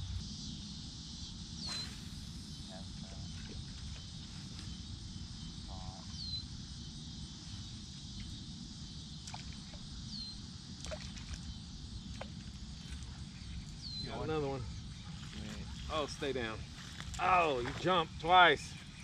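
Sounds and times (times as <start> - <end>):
low steady rumble: 0.0 - 17.1
insects chorus: 0.0 - 19.0.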